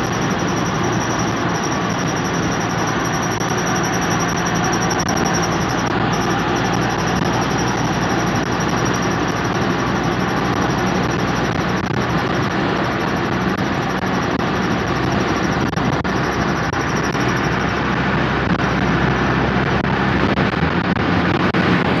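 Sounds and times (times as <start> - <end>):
car road noise: 0.0 - 22.0
high-pitched brake whine: 0.0 - 22.0.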